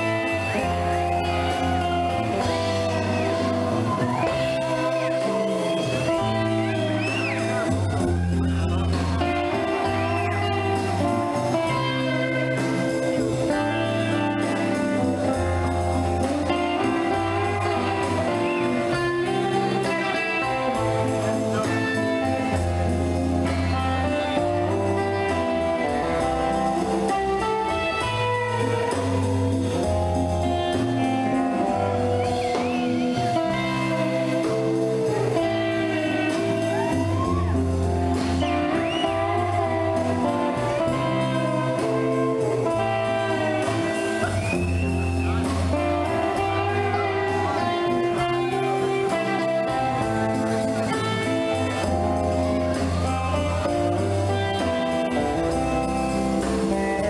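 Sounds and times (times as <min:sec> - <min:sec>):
guitar music: 0:00.0 - 0:57.0.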